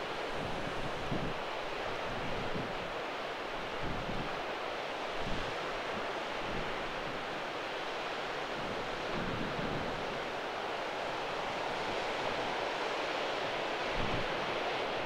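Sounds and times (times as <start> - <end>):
sea surf: 0.0 - 15.0
wind: 0.0 - 15.0.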